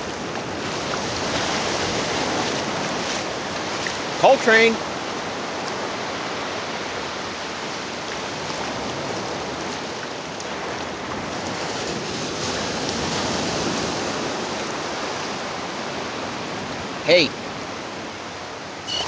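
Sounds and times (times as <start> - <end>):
ocean surf washing up beach: 0.0 - 19.0.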